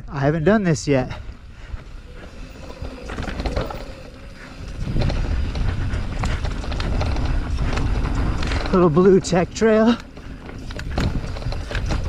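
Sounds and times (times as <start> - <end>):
tyres rumbling: 0.0 - 12.0
wind on microphone: 0.0 - 12.0
bike clicks and rattles: 0.2 - 12.0.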